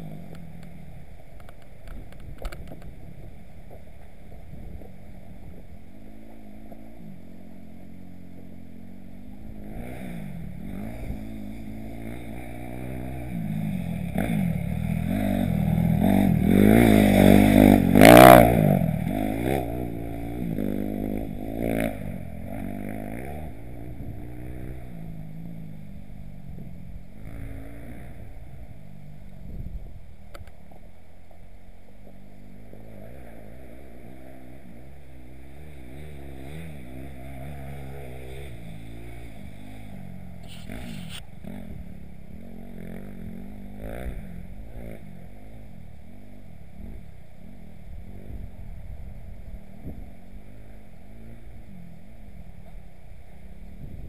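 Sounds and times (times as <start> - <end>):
motocross bike engine revving: 4.5 - 29.6, 32.1 - 52.6.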